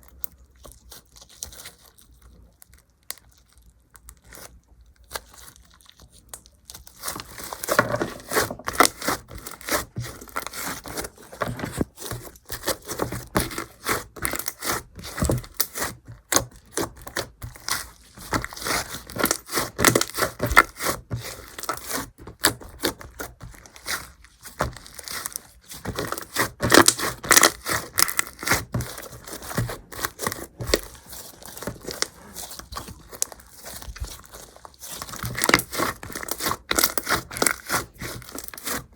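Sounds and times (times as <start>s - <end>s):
hands squishing slime: 0.0s - 38.9s.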